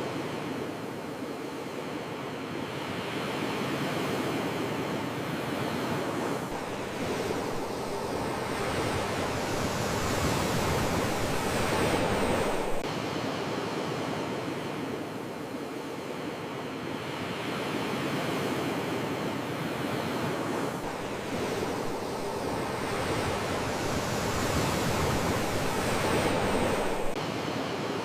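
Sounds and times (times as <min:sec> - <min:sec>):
sea waves washing ashore: 0:00.0 - 0:28.0.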